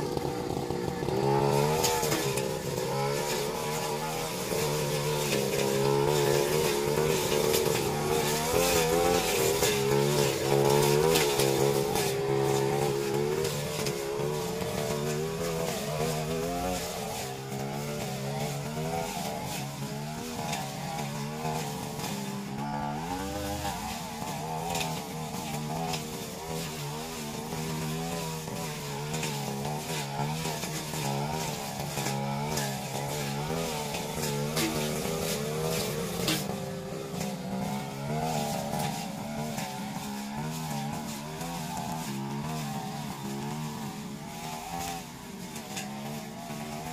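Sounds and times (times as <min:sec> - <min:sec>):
brush cutter engine running: 0:00.0 - 0:46.9.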